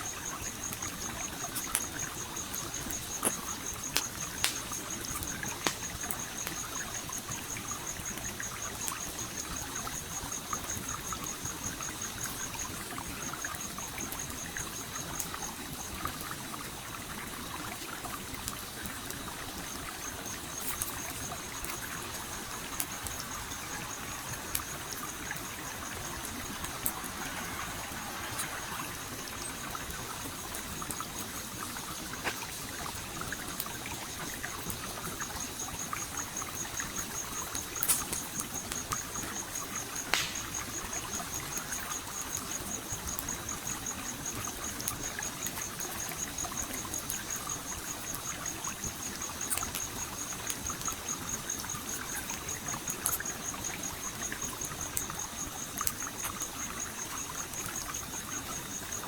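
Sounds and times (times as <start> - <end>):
campfire crackling: 0.0 - 59.0
stream flowing and trickling: 0.0 - 59.0.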